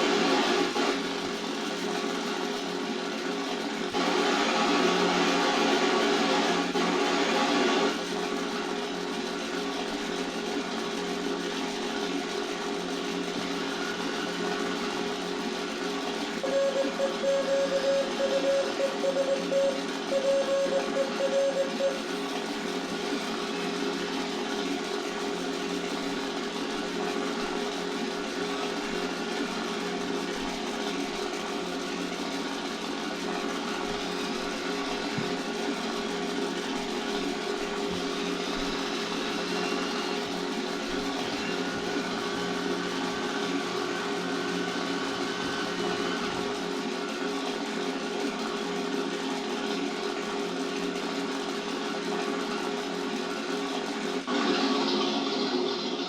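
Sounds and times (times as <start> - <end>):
aero engine drone through small speaker: 0.0 - 56.0.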